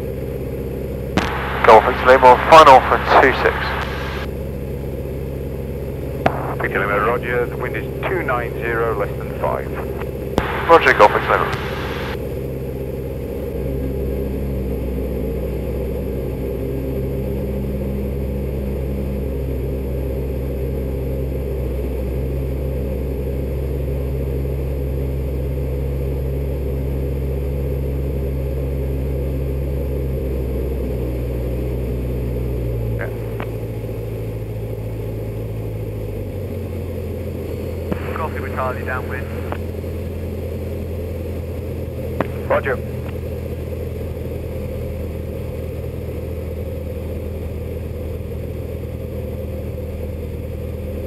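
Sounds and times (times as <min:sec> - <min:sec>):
light aircraft engine droning: 0:00.0 - 0:51.0.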